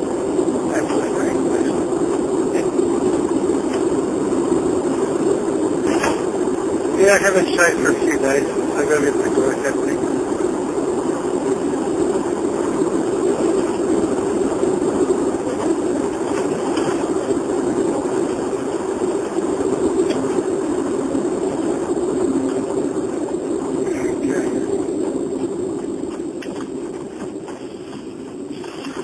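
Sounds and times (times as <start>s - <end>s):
car interior road and engine noise: 0.0s - 29.0s.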